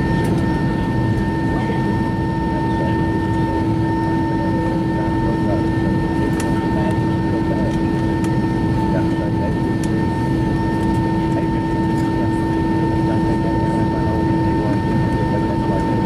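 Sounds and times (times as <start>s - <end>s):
aircraft cabin low rumble: 0.0s - 16.0s
high engine whine: 0.0s - 16.0s.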